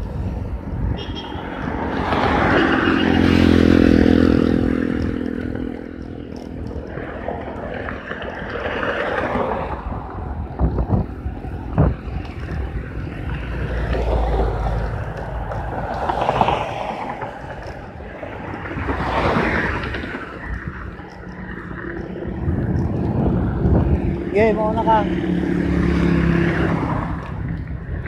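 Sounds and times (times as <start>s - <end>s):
tyre noise on concrete: 0.0s - 28.0s
wind buffeting a microphone: 0.0s - 28.0s.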